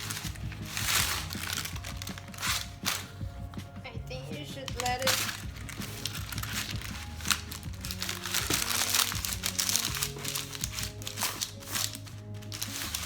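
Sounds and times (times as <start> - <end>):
paper crinkling and rustling: 0.0 - 3.8, 4.5 - 13.0
background music low held notes: 0.0 - 13.0.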